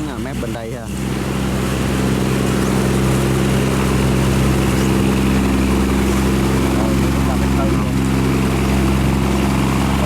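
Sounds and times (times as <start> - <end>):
barge diesel engine: 0.0 - 10.0.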